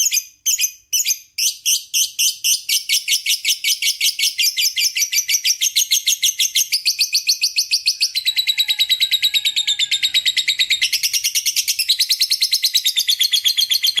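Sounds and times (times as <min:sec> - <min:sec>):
lovebird rapid shrill chirps: 0:00.0 - 0:14.0.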